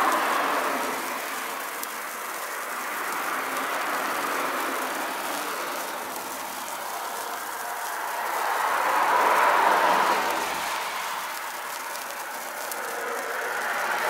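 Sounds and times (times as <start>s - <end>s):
sparkler crackles: 0.0s - 14.0s
sparkler firework hissing: 0.0s - 14.0s.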